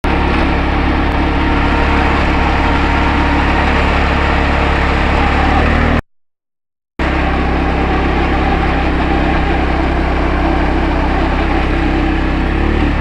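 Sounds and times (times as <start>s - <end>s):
ride-on tractor engine running: 0.0s - 6.0s, 7.0s - 13.0s.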